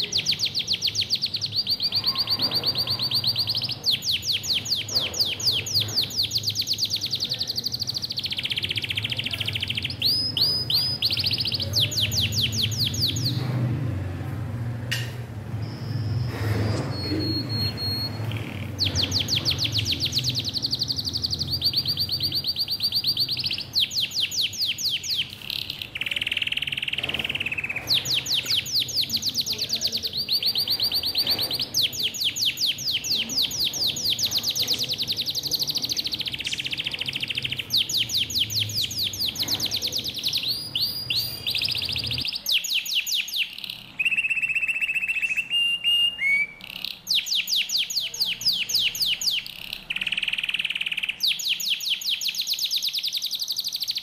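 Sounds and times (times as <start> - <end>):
budgerigars chattering: 0.0 - 13.5, 16.8 - 54.0.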